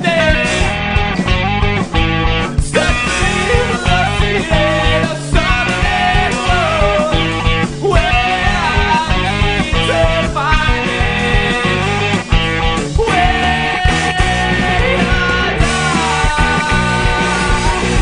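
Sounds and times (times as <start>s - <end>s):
emo rock band playing: 0.0s - 18.0s.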